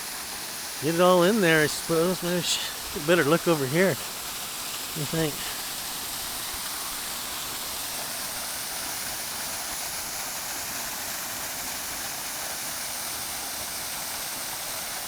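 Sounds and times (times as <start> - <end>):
waterfall roaring: 0.0 - 14.6.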